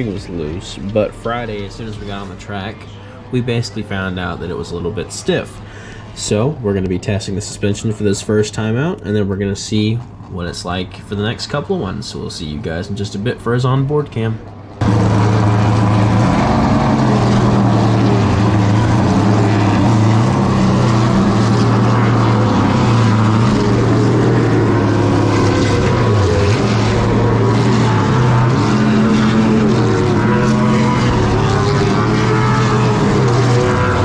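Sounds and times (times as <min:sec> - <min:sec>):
race car engine at speed: 0:00.0 - 0:08.1, 0:10.0 - 0:34.0.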